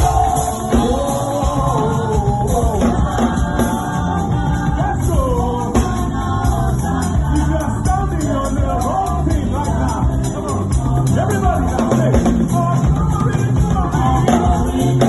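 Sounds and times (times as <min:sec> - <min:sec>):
bass guitar: 0:00.0 - 0:15.0
drum kit: 0:00.0 - 0:15.0
voices singing: 0:00.0 - 0:15.0.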